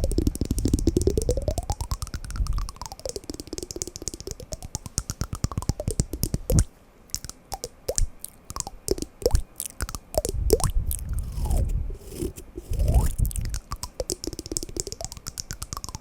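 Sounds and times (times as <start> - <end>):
tone sliding up and down: 0.0 - 16.0
wooden blocks clicking rapidly: 0.0 - 16.0.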